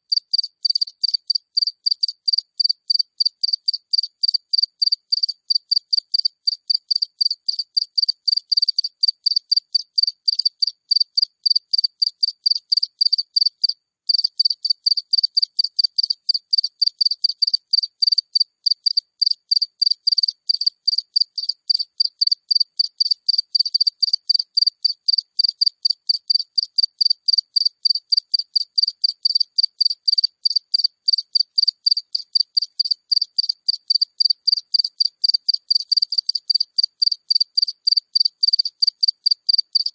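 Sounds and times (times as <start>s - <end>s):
cricket chirping: 0.1s - 39.9s.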